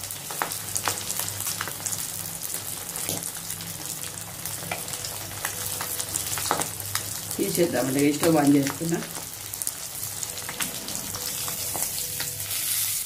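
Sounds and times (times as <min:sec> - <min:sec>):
fish sizzling in hot oil: 0:00.0 - 0:13.0
oil popping and crackling: 0:00.0 - 0:13.0
low steady hum: 0:01.1 - 0:13.0.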